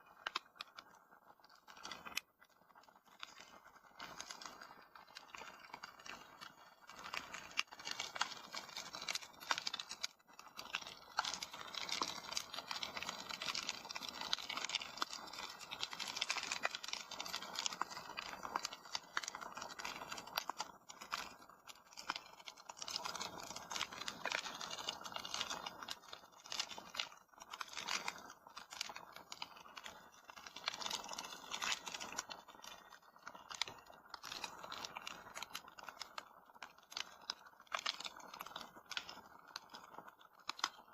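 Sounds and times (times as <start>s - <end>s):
fire crackling in a fireplace: 0.0s - 40.9s.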